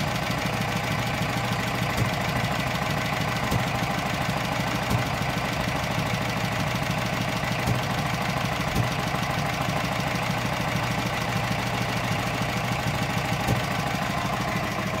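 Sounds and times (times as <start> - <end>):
engine knocks: 0.0 - 15.0
stationary engine idling: 0.0 - 15.0.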